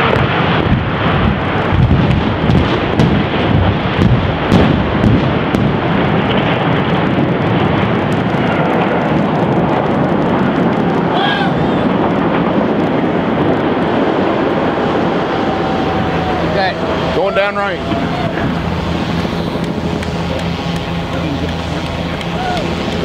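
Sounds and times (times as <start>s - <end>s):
bridge collapse rumble: 0.0s - 23.0s
sharp cracks: 0.0s - 23.0s.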